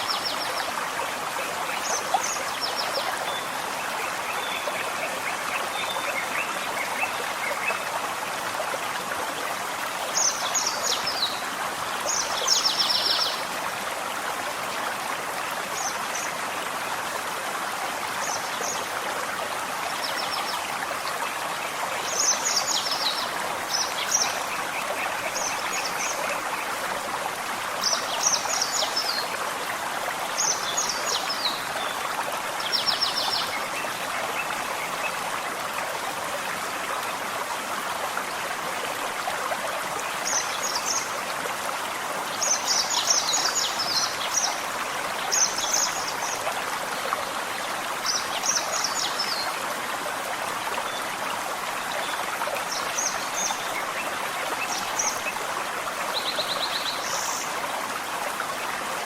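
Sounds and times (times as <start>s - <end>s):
forest stream running: 0.0s - 59.0s.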